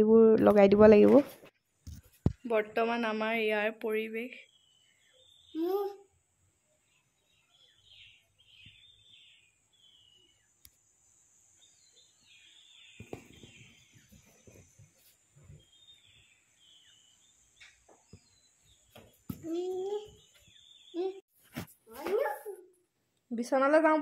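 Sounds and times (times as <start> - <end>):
quiet outdoor ambience: 0.0 - 24.0
faint birdsong: 2.4 - 21.6.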